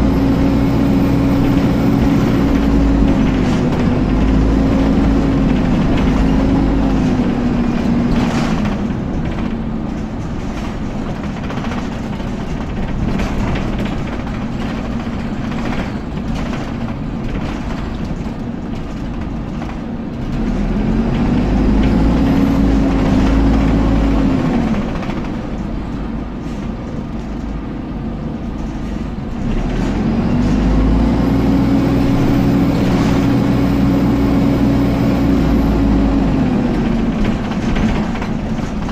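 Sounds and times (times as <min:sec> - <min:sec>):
bus engine rumbling: 0:00.0 - 0:38.9.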